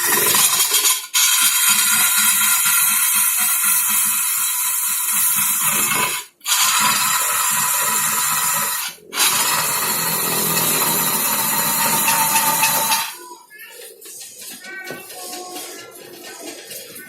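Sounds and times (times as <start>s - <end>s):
wood lathe tool scraping wood: 0.0s - 17.0s.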